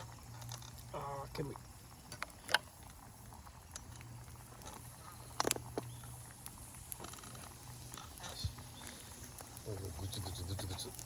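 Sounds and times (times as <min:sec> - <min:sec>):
broth bubbling in a pot: 0:00.0 - 0:11.0
campfire crackling and popping: 0:00.0 - 0:11.0.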